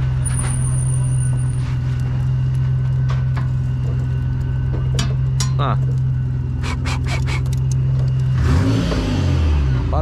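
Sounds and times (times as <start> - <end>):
low mechanical hum: 0.0 - 9.1.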